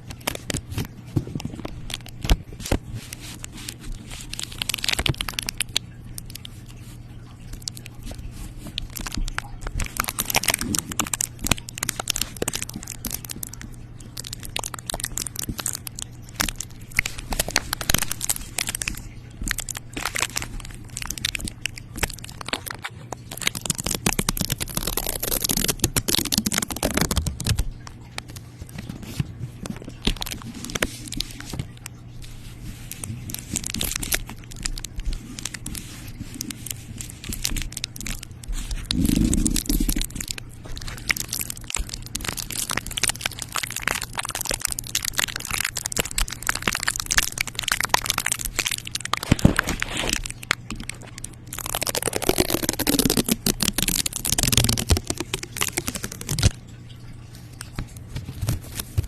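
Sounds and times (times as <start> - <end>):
close crinkling and crackling: 0.0 - 59.0.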